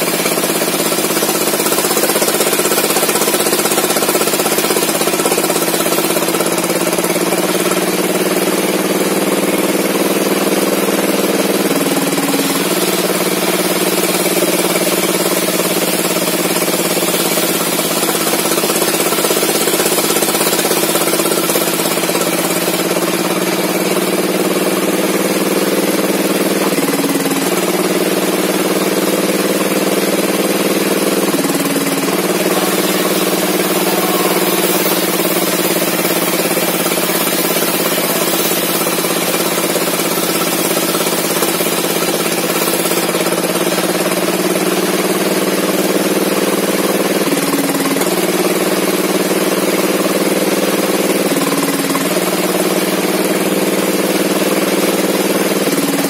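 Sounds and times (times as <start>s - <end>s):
small engine driving saw: 0.0s - 56.0s.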